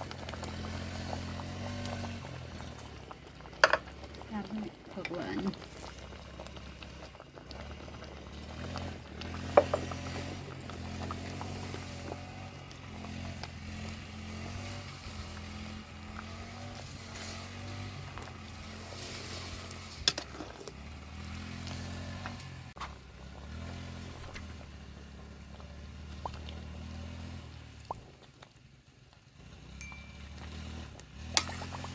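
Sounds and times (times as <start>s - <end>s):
engine running unevenly: 0.0s - 28.2s, 29.3s - 31.9s.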